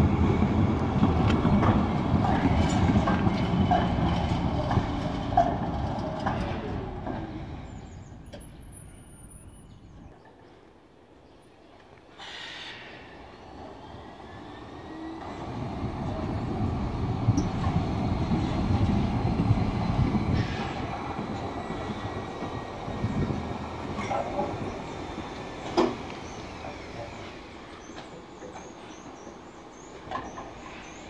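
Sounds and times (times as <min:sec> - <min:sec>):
tram wheels rumbling: 0:00.0 - 0:10.4, 0:12.2 - 0:31.0.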